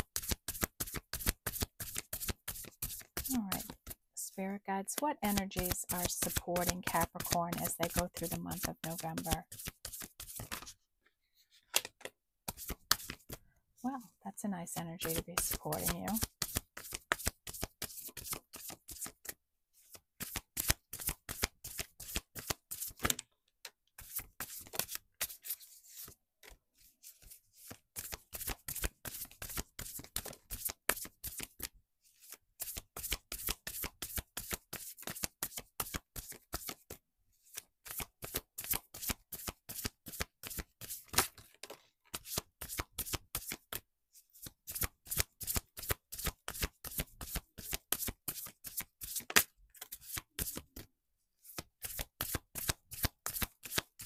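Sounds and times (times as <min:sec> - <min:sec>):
cards being shuffled: 0:00.2 - 0:04.0, 0:05.3 - 0:10.8, 0:11.6 - 0:13.4, 0:15.1 - 0:23.2, 0:24.0 - 0:43.7, 0:44.7 - 0:53.9.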